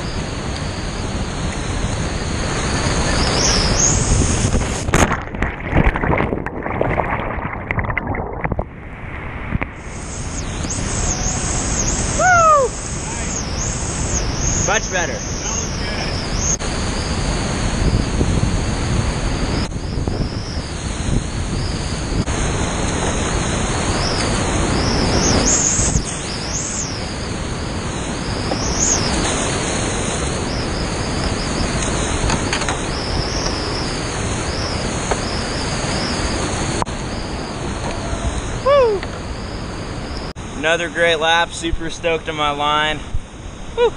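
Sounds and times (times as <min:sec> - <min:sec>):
wind on microphone: 0:00.0 - 0:40.6.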